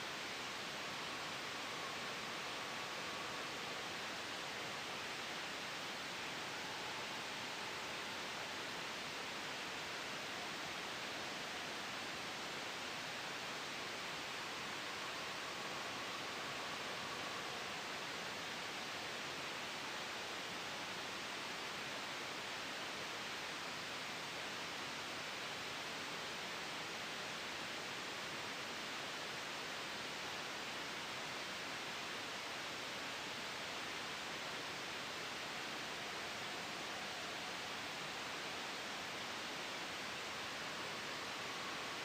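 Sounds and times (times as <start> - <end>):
gentle wind: 0.0 - 42.0
soft white noise hiss: 0.0 - 42.0.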